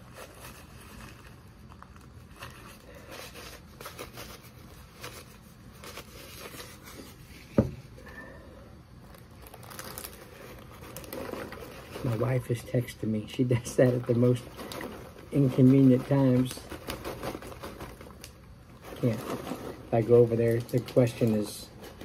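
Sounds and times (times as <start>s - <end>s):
paper rustling and crinkling: 0.0s - 7.7s, 9.0s - 22.0s.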